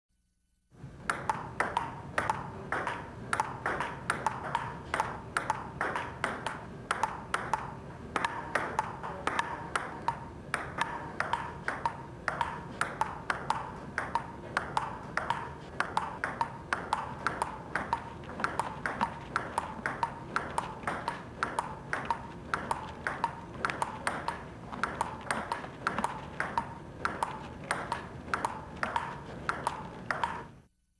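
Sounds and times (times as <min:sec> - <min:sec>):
table tennis ball clicking: 0:01.0 - 0:30.7.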